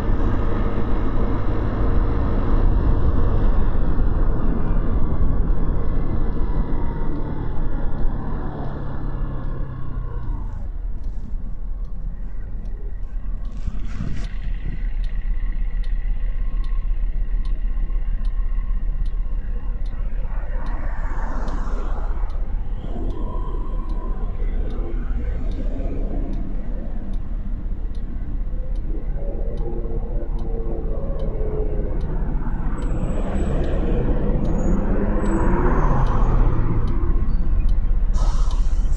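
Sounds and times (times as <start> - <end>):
bus engine approaching: 0.0 - 38.9
car engines rumbling: 0.0 - 38.9.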